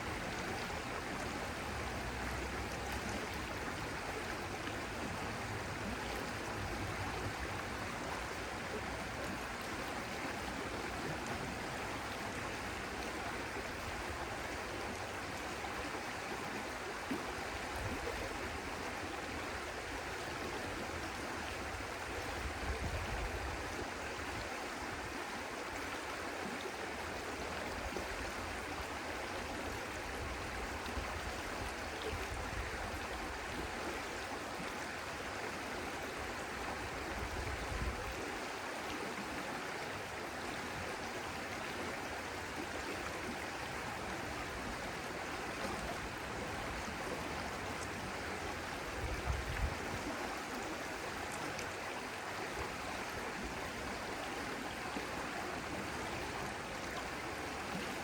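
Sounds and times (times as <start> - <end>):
stream water flowing and splashing: 0.0 - 58.0.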